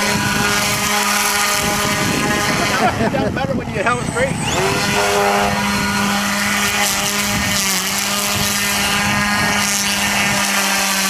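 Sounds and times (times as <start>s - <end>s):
propeller chopping through grass: 0.0s - 3.2s, 4.0s - 11.0s
model airplane motor and propeller: 0.0s - 11.0s.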